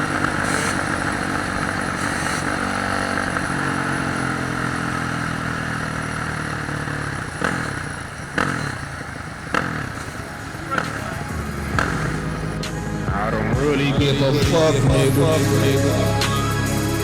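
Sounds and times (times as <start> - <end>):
dirt bike engine running: 0.0 - 16.1.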